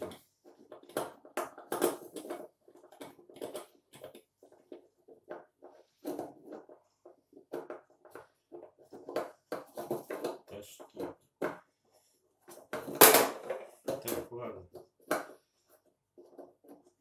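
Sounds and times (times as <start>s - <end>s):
hands clicking and knocking parts: 0.0s - 17.0s.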